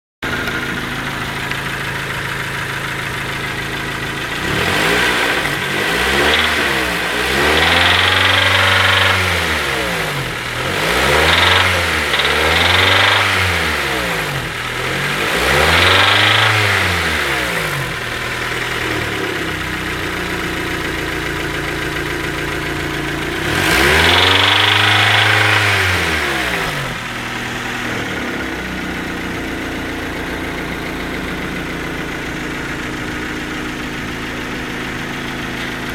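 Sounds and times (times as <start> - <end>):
engine knock: 0.2 - 13.4, 17.8 - 26.2, 26.8 - 35.9
car engine idling and revving: 0.2 - 35.9.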